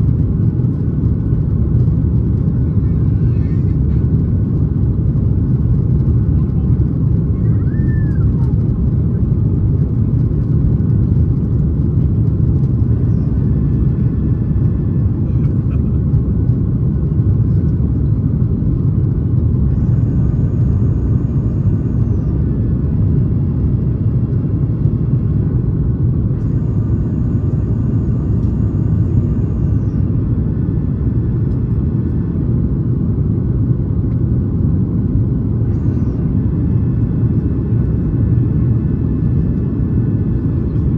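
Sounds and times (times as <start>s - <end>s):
jet engine roar in cabin: 0.0s - 40.9s.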